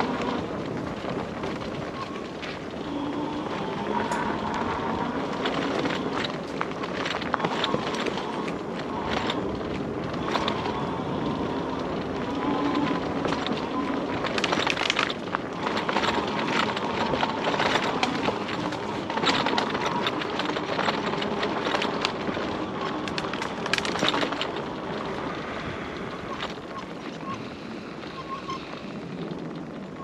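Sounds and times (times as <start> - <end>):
bike tyres crackling on dirt: 0.0 - 30.0.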